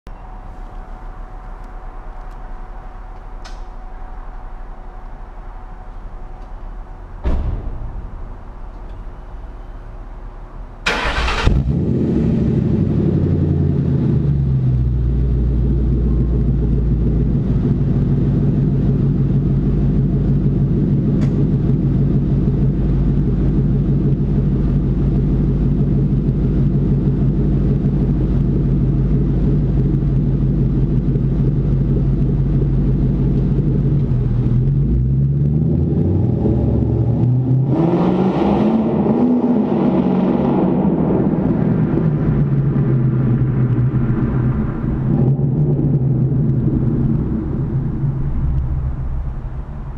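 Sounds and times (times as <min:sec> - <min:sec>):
car engine idling and revving: 0:05.4 - 0:49.9.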